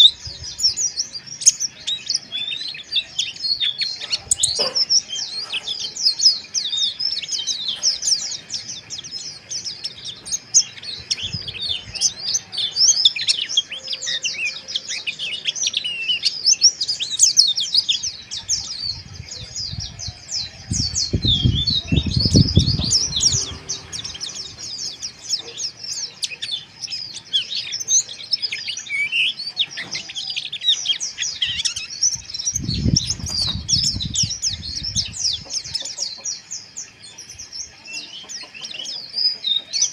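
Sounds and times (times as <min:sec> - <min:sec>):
birds twittering: 0:00.0 - 0:39.9.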